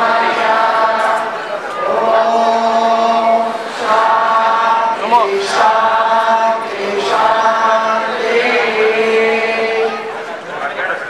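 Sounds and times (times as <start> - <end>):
voices singing a slow chant: 0.0 - 10.4.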